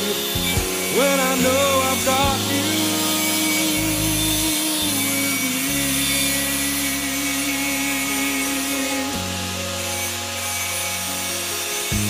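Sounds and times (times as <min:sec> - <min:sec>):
instrumental pop-rock music: 0:00.0 - 0:12.0.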